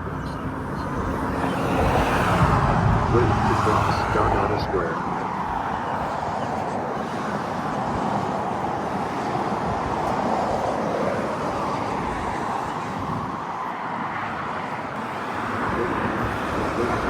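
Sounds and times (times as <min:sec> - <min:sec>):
passing cars: 0:00.0 - 0:17.0.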